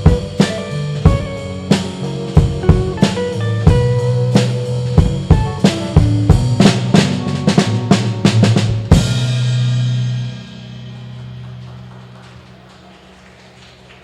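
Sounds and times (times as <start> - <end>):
drum kit hits: 0.0 - 12.3
live blues band: 0.0 - 14.0.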